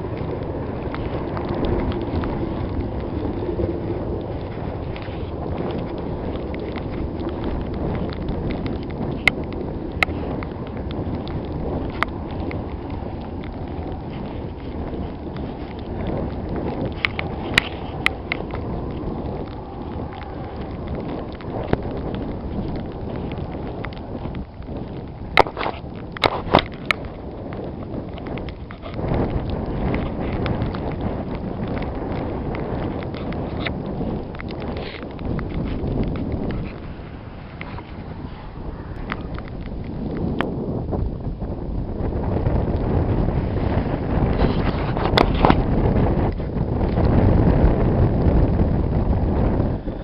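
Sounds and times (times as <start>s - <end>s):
small ticks: 0.0s - 40.5s, 43.7s - 50.0s
gusty wind on microphone: 0.0s - 50.0s.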